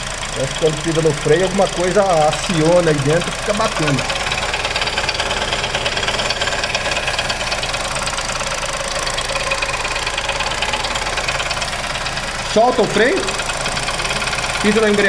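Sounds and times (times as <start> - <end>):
car engine idling: 0.0 - 15.0
rapid knocking rattle: 0.0 - 15.0.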